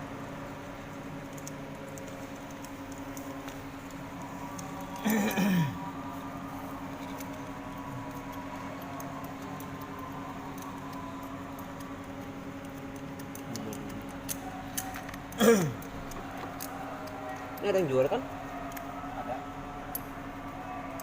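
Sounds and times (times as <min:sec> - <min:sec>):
steady motor hum: 0:00.0 - 0:21.0.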